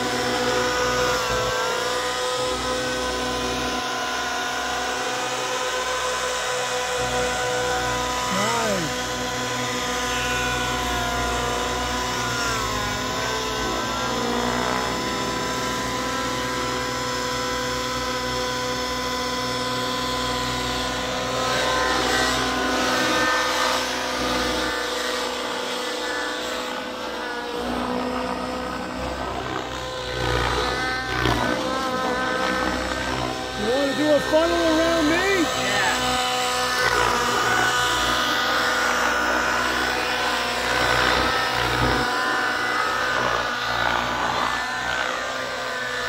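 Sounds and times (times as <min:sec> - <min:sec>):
model helicopters whining: 0:00.0 - 0:46.0.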